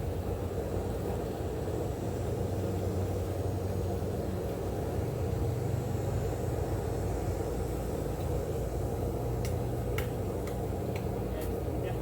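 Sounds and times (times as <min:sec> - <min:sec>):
gas forge burner rumbling: 0:00.0 - 0:12.0.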